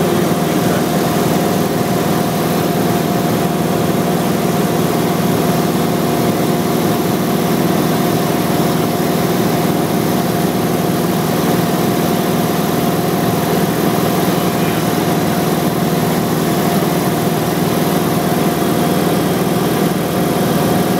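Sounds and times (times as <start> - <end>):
light aircraft engine drone: 0.0 - 20.9.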